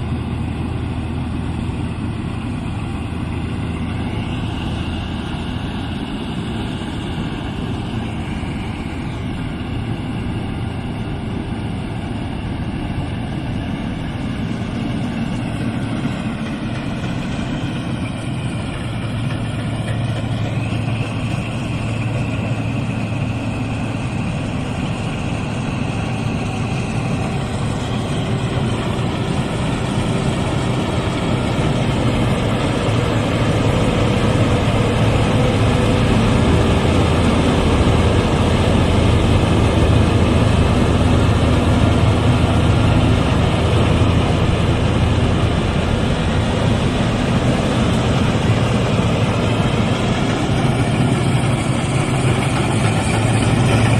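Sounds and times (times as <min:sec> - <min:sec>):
harvester machinery rumbling: 0:00.0 - 0:53.9
wavering mechanical whine: 0:00.0 - 0:53.9.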